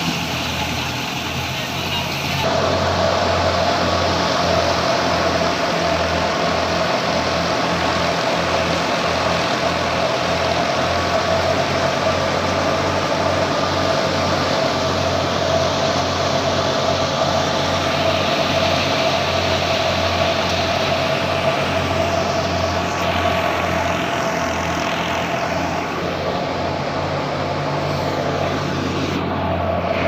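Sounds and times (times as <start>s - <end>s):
heavy machine engine droning: 0.0s - 30.0s.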